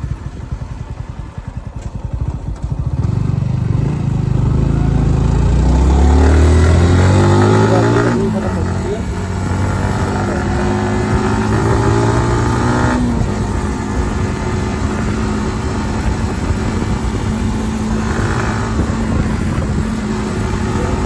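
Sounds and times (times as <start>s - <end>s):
motorcycle engine running: 0.0s - 21.0s
rough noisy engine: 0.0s - 21.0s.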